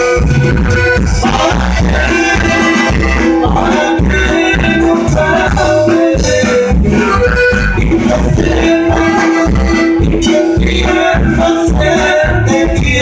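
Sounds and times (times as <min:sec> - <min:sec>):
accordion: 0:00.0 - 0:13.0
drums: 0:00.0 - 0:13.0
guitar: 0:00.0 - 0:13.0.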